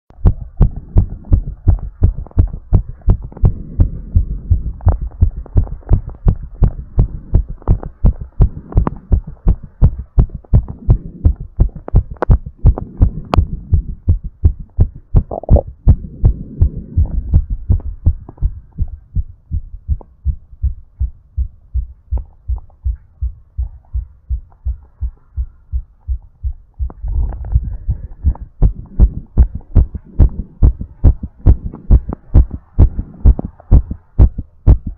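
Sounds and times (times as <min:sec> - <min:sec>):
fast human heartbeat: 0:00.1 - 0:34.9.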